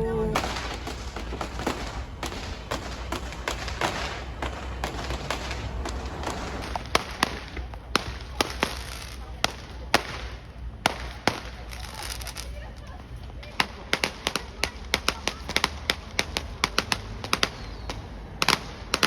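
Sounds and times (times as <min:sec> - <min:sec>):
sharp bangs and pops: 0:00.3 - 0:12.7, 0:13.3 - 0:19.0.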